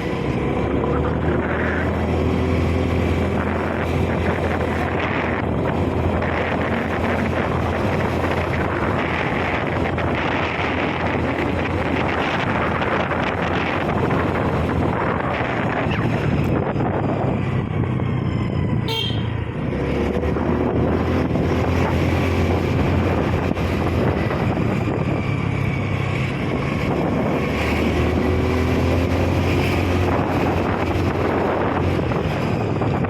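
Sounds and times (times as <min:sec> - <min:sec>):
road and wind noise: 0:00.0 - 0:33.0.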